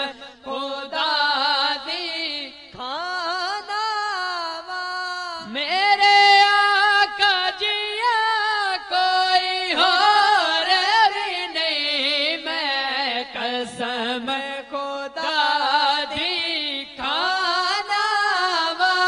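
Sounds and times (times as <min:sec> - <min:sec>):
young men singing without instruments: 0:00.0 - 0:19.0.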